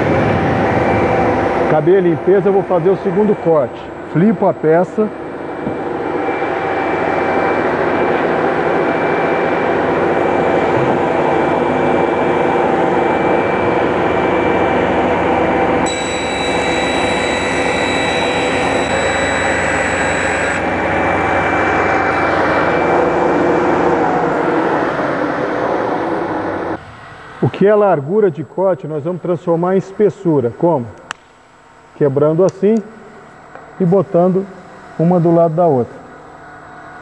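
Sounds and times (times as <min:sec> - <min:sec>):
high saw whine: 0:00.0 - 0:30.0.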